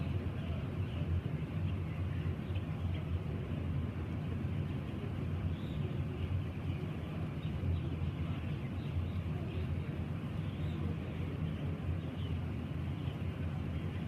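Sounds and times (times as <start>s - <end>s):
ventilation fans rumbling: 0.0s - 14.0s.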